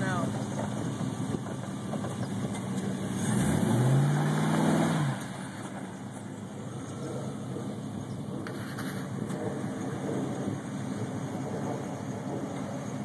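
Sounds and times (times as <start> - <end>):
pickup truck engine revving: 0.0 - 13.0.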